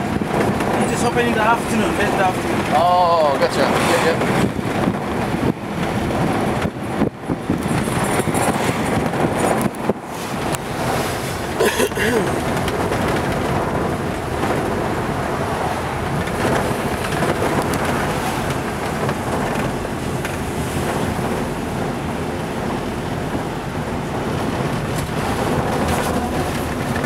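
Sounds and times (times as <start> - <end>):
road and engine rumble in minibus: 0.0 - 27.0.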